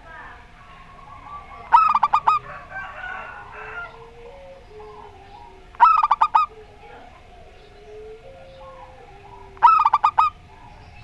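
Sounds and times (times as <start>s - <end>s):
dove staccato cooing: 0.0s - 11.0s
faint bird calls: 0.0s - 11.0s.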